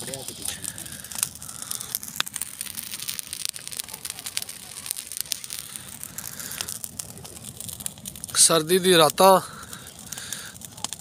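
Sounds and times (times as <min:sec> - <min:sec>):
brushwood fire crackling: 0:00.0 - 0:11.0.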